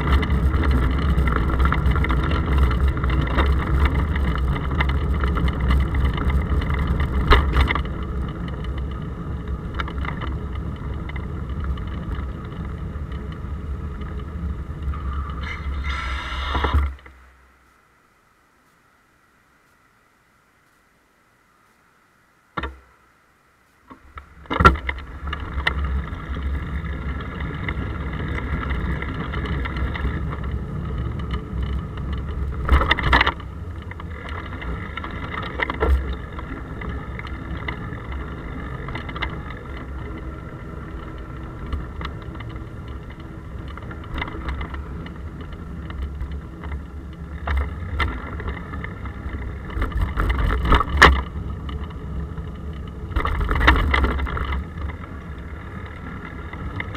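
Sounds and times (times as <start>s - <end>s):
muffled bicycle rolling rumble: 0.0s - 56.9s.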